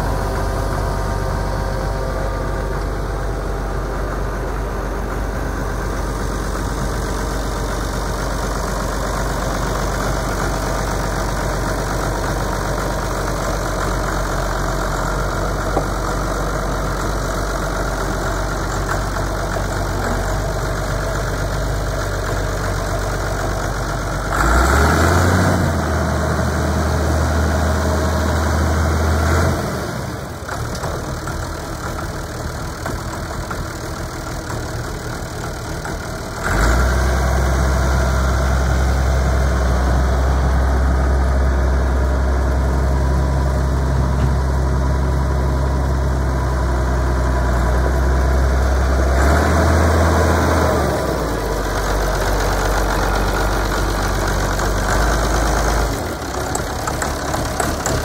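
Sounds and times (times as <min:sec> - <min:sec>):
diesel tractor engine idling: 0:00.0 - 0:58.0.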